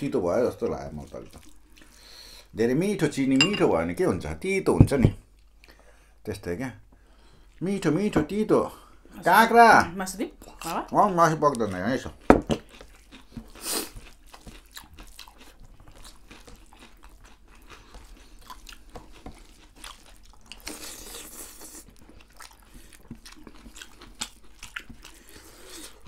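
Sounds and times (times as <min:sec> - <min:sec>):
people chewing and crunching food: 0:00.0 - 0:03.2, 0:04.8 - 0:06.2, 0:06.8 - 0:26.0.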